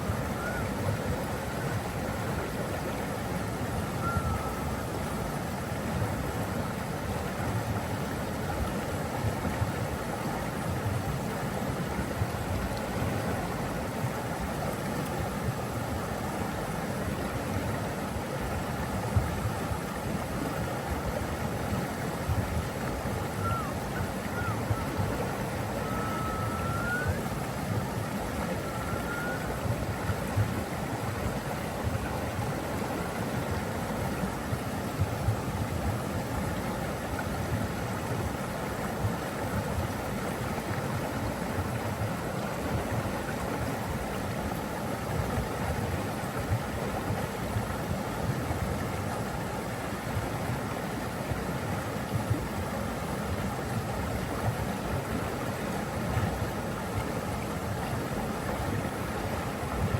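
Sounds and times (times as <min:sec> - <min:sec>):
water rushing with low rumble: 0:00.0 - 0:59.9.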